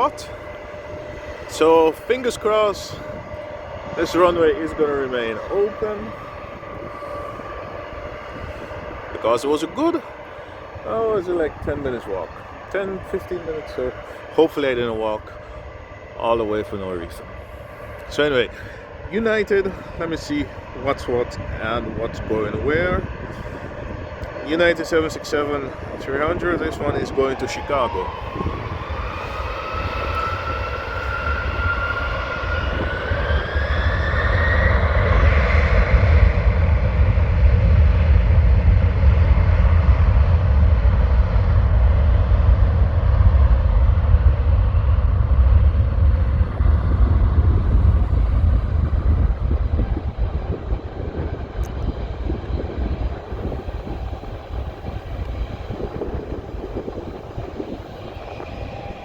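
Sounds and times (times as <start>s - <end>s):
deep jet engine rumble: 0.0s - 59.0s
jet engines whining: 0.0s - 59.0s.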